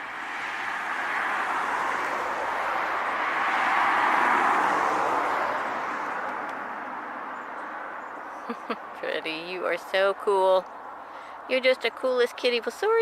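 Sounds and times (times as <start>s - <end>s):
vehicle passing by: 0.0s - 11.6s.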